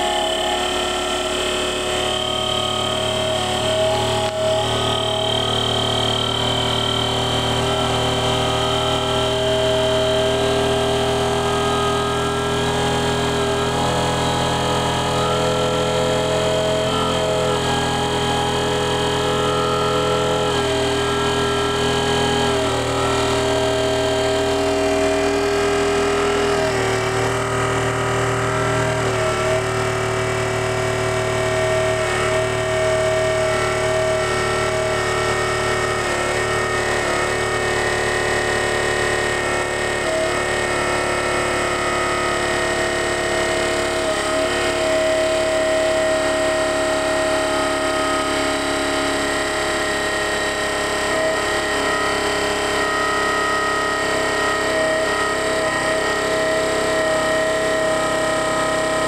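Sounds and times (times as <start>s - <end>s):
air compressor humming and whining: 0.0s - 59.0s.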